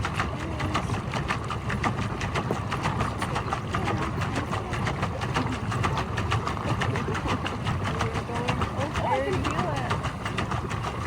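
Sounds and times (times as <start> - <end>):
paddlewheel splashing water: 0.0 - 11.0.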